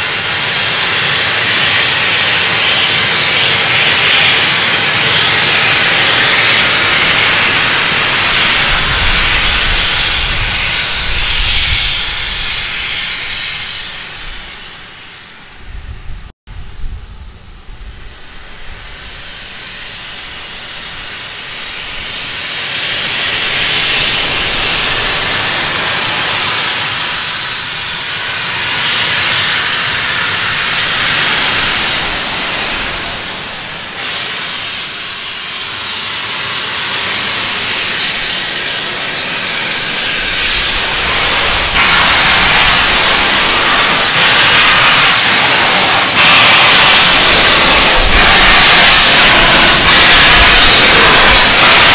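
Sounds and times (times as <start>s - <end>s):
steam locomotive hissing: 0.0s - 51.9s.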